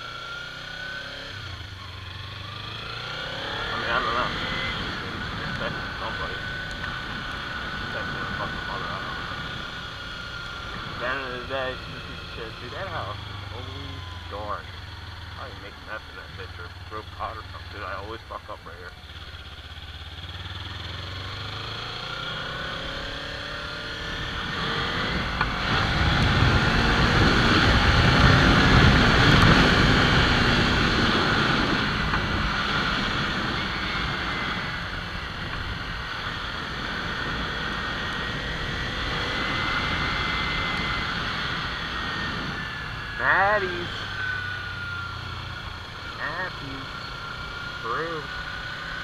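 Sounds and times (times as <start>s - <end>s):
motorcycle engine revving: 0.0s - 49.0s
wind and road noise: 0.0s - 49.0s.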